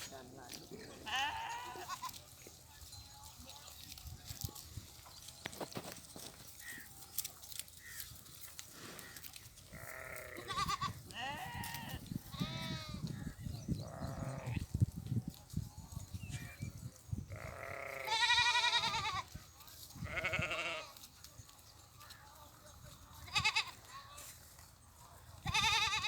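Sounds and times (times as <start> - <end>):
goats and sheep bleating: 0.5 - 2.6, 3.3 - 14.9, 16.2 - 24.6, 25.2 - 26.0.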